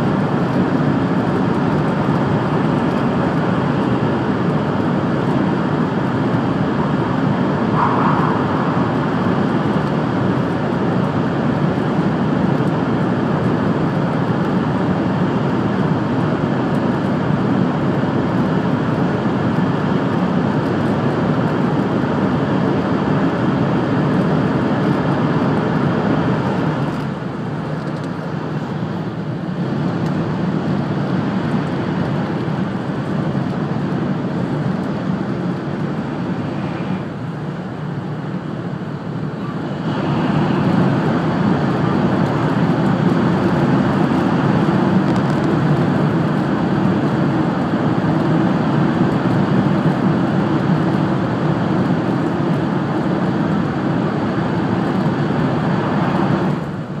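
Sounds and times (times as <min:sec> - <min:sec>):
high-speed train rumble and rush: 0:00.0 - 0:57.0.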